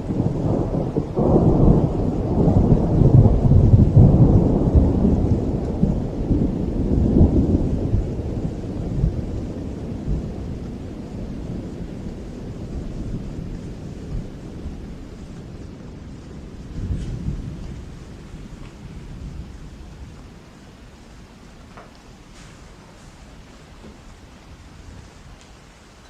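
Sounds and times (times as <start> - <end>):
rolling thunder: 0.0 - 25.8
steady rain: 0.0 - 26.0.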